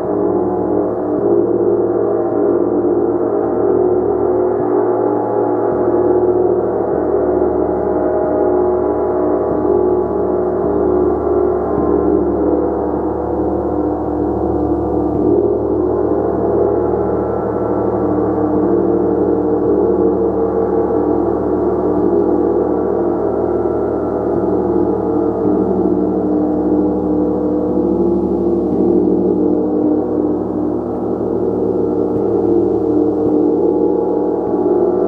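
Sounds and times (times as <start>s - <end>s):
gong drone: 0.0s - 35.0s.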